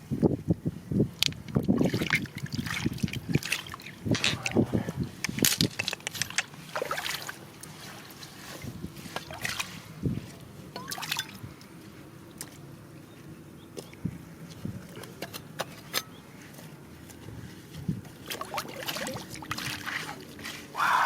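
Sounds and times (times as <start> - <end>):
water sloshing and trickling: 1.2 - 21.0.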